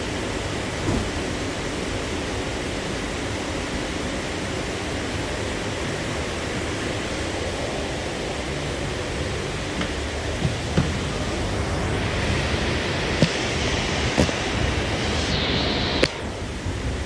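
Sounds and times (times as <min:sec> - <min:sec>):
train ventilation hissing and humming: 0:00.0 - 0:17.0.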